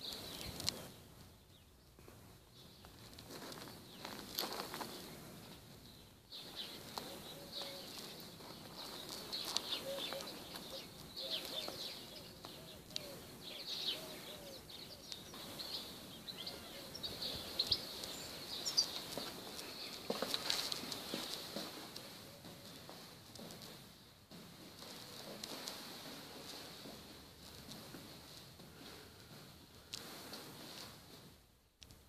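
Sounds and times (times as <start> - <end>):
small birds chirping: 0.0 - 30.2
faint background hiss: 0.0 - 32.0.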